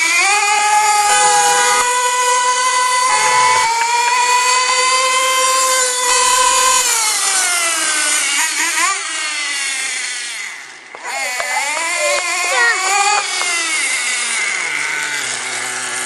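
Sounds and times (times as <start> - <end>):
small engine high whine: 0.0 - 16.0.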